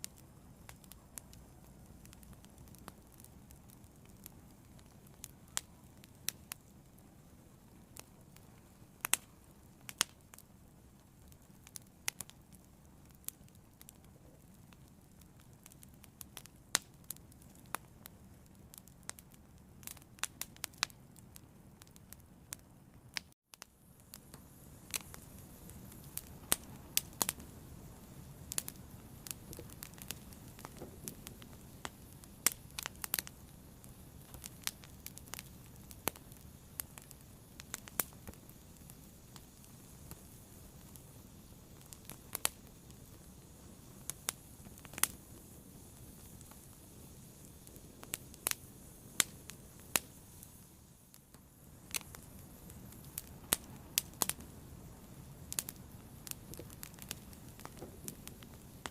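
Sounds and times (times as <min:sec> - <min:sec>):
fire crackling and popping: 0:00.0 - 0:58.9
fire hiss: 0:00.0 - 0:58.9.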